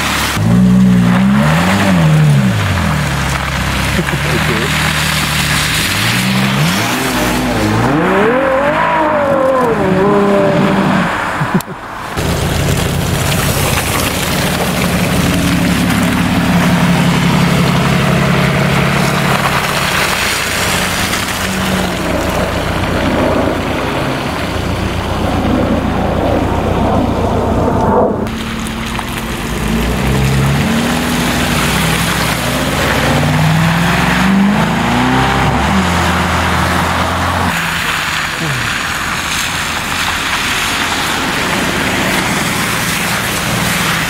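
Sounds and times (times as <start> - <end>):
car engines running: 0.0 - 44.0.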